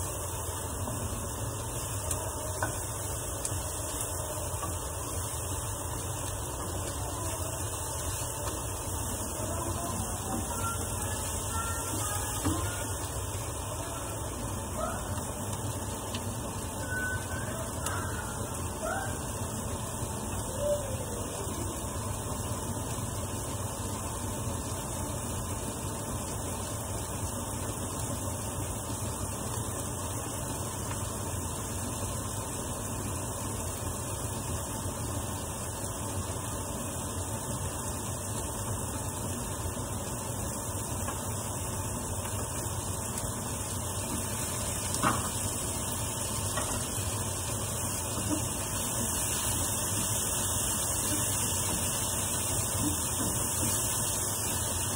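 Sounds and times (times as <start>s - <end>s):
vegetables sizzling in a frying pan: 0.0s - 54.9s.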